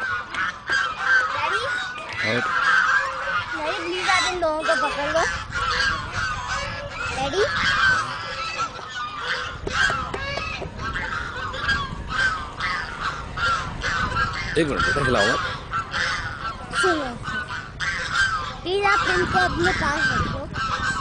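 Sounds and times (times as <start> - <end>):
geese honking: 0.0 - 21.0.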